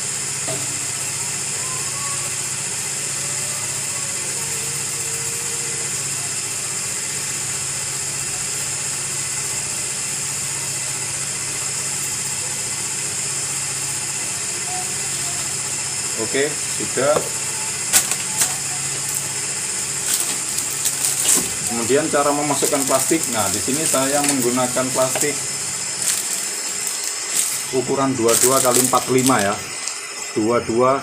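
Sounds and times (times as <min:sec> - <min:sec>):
small electric motor humming: 0:00.0 - 0:31.0.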